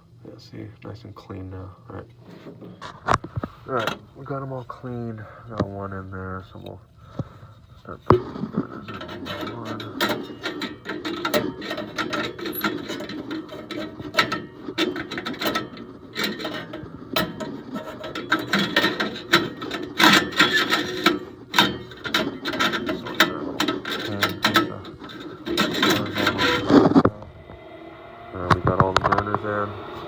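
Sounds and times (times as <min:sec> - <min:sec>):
metal burners clicking and rattling: 0:01.2 - 0:27.2, 0:28.4 - 0:30.0.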